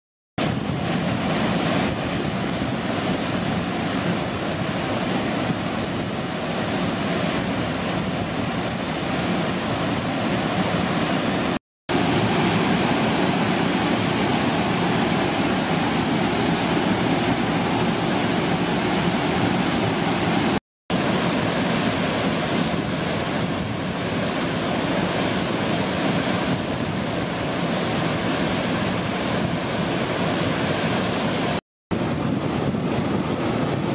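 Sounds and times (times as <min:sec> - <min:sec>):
waterfall rushing over boulders: 0:00.4 - 0:33.9.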